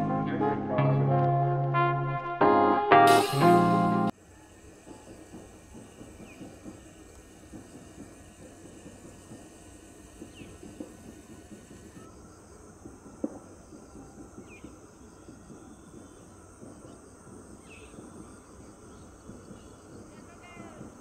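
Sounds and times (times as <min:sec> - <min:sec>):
insects buzzing: 0:04.1 - 0:21.0.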